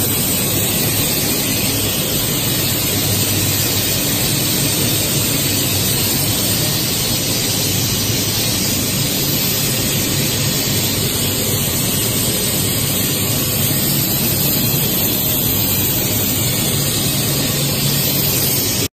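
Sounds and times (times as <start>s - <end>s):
steady machinery noise: 0.0s - 18.9s.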